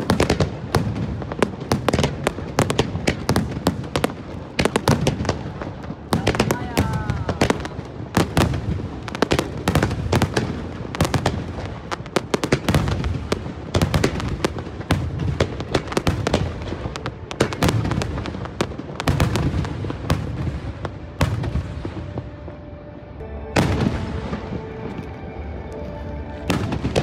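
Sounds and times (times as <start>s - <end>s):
fireworks launching and bursting: 0.0s - 27.0s.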